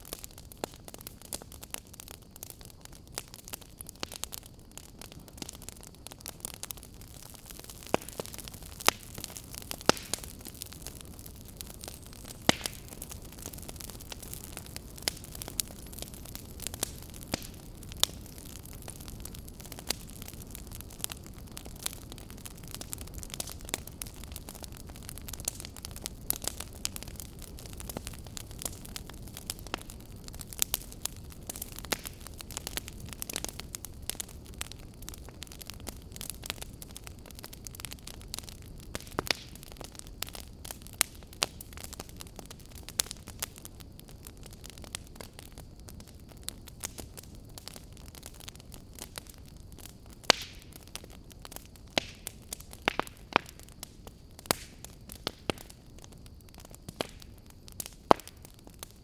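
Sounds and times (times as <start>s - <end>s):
firewood crackling: 0.0s - 59.0s
low rumble of flames: 0.0s - 59.0s.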